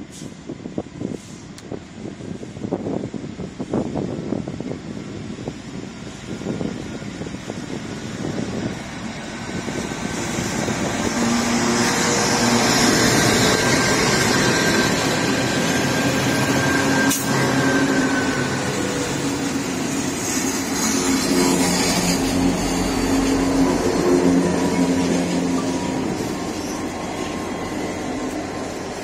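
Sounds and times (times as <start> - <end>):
diesel locomotives running past: 0.0 - 29.0.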